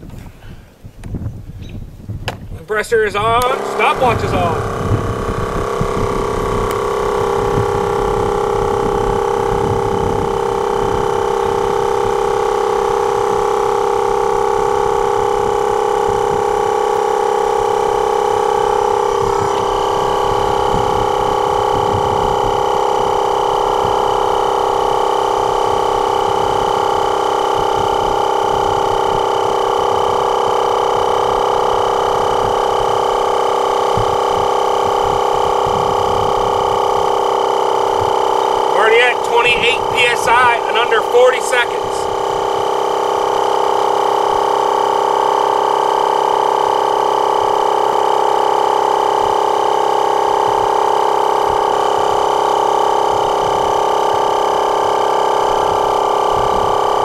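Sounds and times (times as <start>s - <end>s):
air compressor droning: 0.0s - 57.0s.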